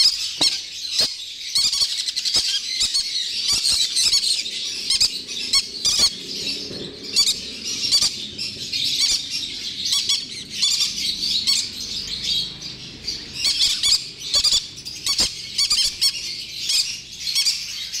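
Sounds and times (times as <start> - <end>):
parrot chicks chirping and squawking: 0.0 - 18.0.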